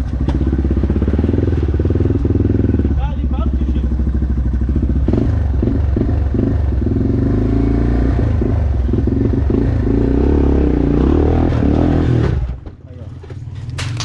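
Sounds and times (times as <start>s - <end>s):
dirt bike engine revving: 0.3s - 12.6s.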